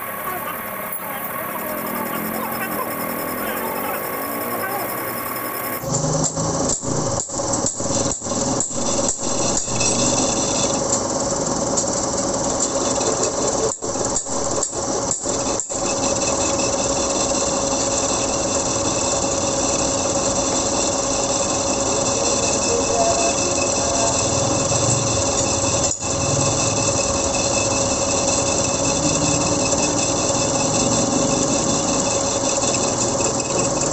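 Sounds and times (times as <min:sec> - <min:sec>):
metal lathe machining: 0:00.0 - 0:33.9.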